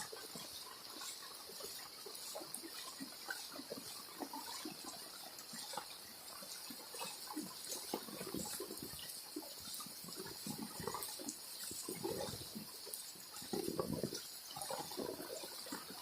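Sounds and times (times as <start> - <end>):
floodwater flowing and gurgling: 0.0 - 16.0
steady high-pitched hiss: 0.0 - 16.0.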